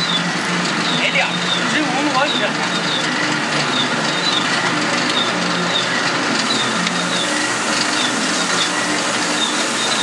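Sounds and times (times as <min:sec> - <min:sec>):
press machine running: 0:00.0 - 0:10.0.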